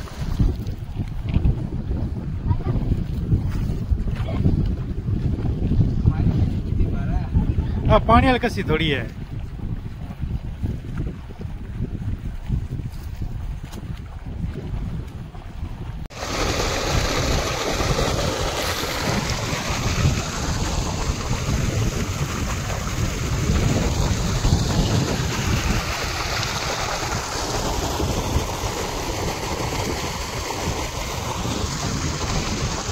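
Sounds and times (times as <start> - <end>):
water running in channels: 0.0 - 32.9
wind buffeting microphone: 0.0 - 32.9.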